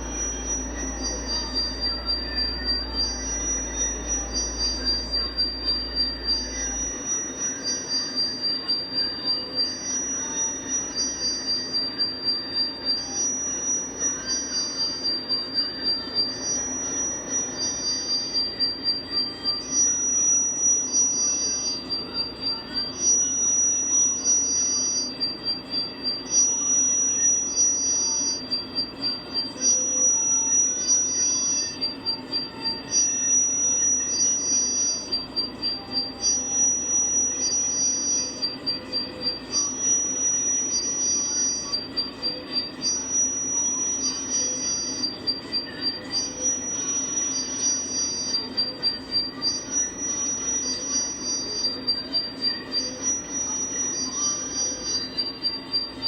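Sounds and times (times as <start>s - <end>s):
alternating high-pitched tones: 0.0s - 56.0s
steady low hum: 0.0s - 56.0s.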